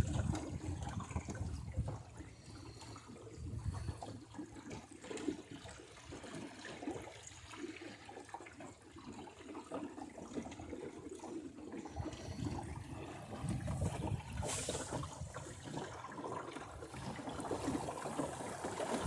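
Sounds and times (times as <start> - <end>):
water splashing against boat hull: 0.0 - 19.0.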